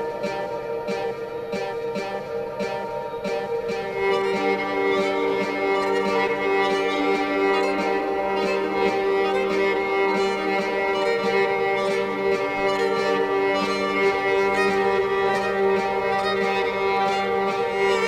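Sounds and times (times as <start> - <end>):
held string chords: 0.0 - 18.0.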